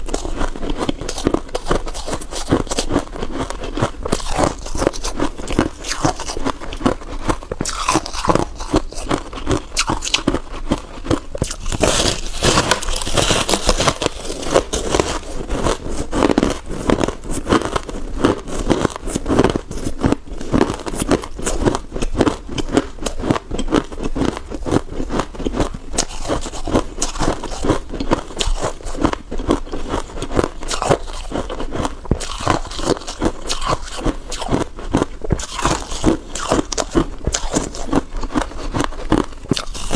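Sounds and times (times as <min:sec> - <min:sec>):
frost being bitten and chewed: 0:00.0 - 0:39.9.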